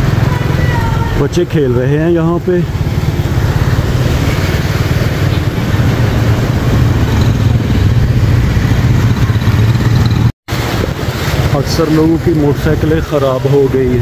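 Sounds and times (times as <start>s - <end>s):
motorcycle engine running: 0.0s - 11.4s
broad rushing noise: 0.0s - 14.0s.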